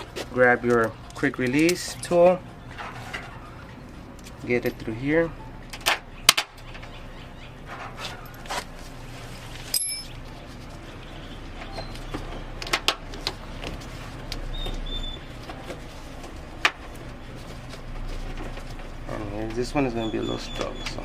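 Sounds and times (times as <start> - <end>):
low steady hum: 0.0 - 20.1.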